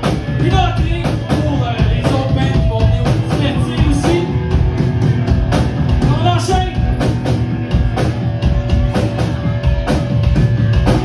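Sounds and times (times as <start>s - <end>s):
punk rock band playing live: 0.0s - 11.0s.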